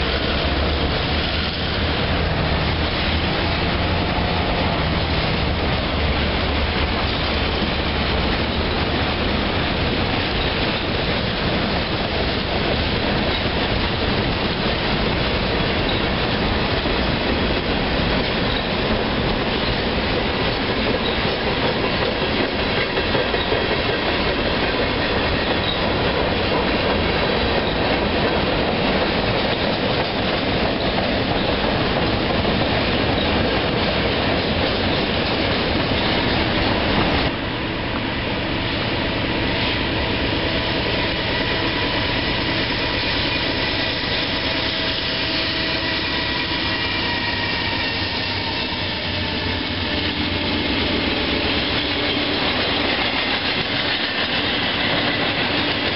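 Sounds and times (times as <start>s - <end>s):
train wheels clattering: 0.0s - 37.4s, 38.0s - 55.9s
train rumble: 0.0s - 55.9s.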